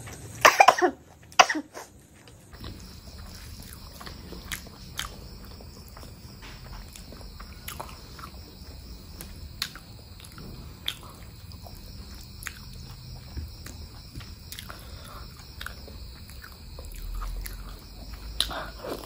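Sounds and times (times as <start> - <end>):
chewing: 1.2 - 19.0.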